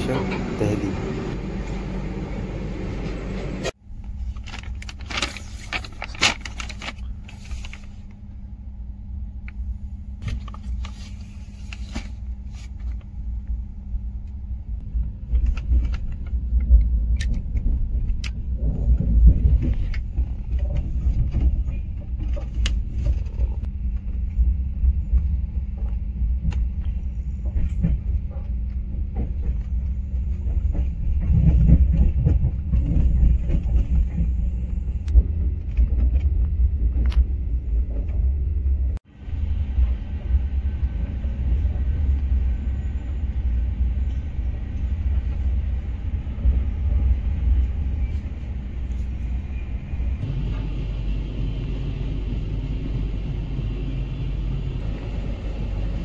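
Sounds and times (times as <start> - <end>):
train coaches rumbling: 0.0 - 3.8, 14.5 - 56.0.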